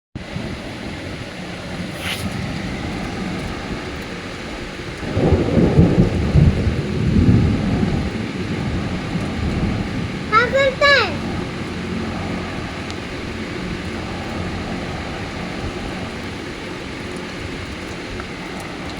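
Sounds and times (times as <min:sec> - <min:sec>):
rain falling steadily: 0:00.2 - 0:18.9
rolling thunder rumble: 0:00.2 - 0:18.9.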